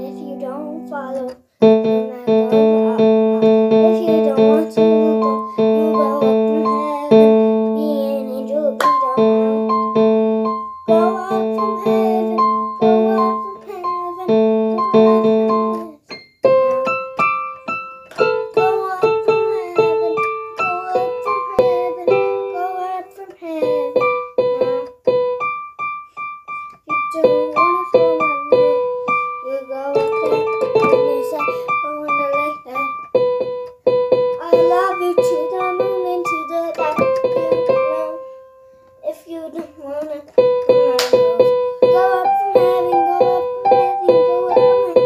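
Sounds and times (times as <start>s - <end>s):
electronic keyboard music: 0.0s - 45.0s.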